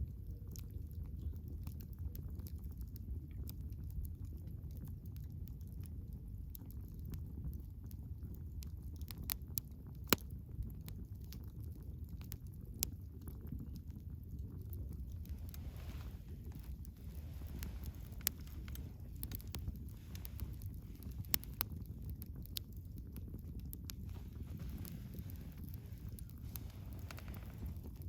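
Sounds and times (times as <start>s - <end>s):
burning firewood crackling: 0.0s - 28.0s
low rumble of flames: 0.0s - 28.0s.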